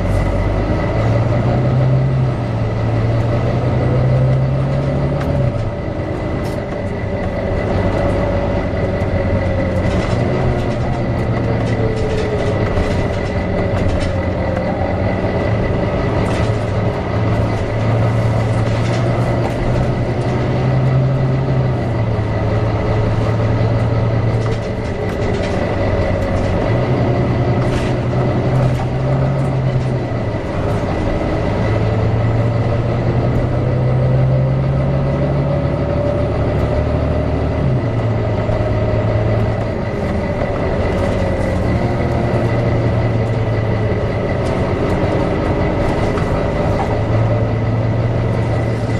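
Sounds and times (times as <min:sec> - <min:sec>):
bus engine drone: 0:00.0 - 0:48.9
rattles and clicks: 0:04.1 - 0:34.3, 0:36.4 - 0:48.9.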